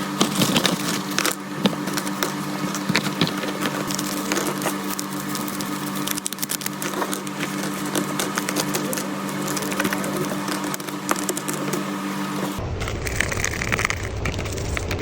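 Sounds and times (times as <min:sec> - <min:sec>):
packaging crinkling: 0:00.0 - 0:15.0
steady low hum: 0:00.0 - 0:15.0.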